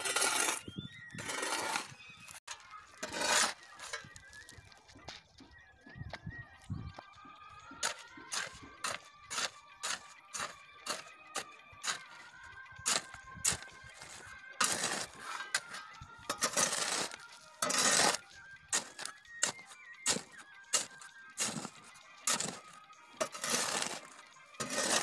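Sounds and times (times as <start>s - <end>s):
shovel scraping on concrete: 0.0s - 4.5s, 7.8s - 12.2s, 12.8s - 25.0s
stones clinking against shovel: 0.0s - 4.6s, 7.8s - 12.2s, 12.8s - 25.0s.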